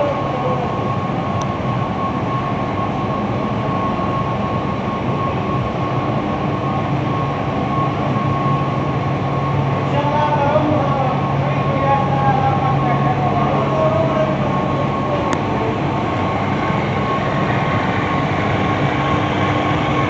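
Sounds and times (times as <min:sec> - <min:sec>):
fabric machine rumbling and whining: 0:00.0 - 0:20.0.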